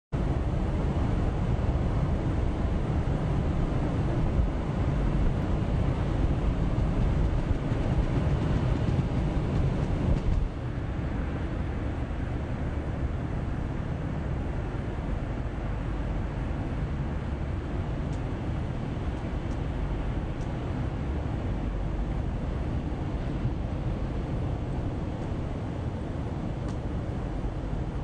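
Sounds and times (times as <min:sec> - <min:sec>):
wind rumbling on microphone: 0:00.2 - 0:28.0.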